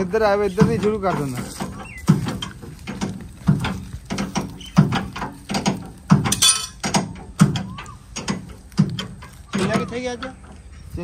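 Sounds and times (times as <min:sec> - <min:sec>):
harvesting machinery clanking: 0:00.0 - 0:11.0.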